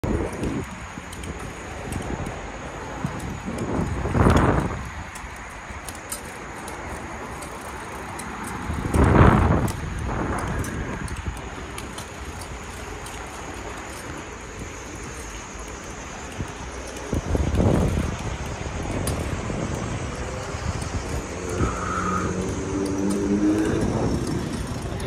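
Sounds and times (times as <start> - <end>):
wind on microphone: 0.0 - 5.2, 8.6 - 25.0.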